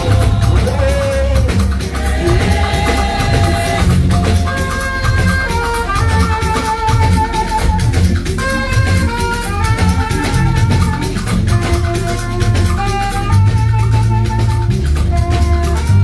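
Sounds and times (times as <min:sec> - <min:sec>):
drums and shakers: 0:00.0 - 0:16.0
heavy bass line: 0:00.0 - 0:16.0.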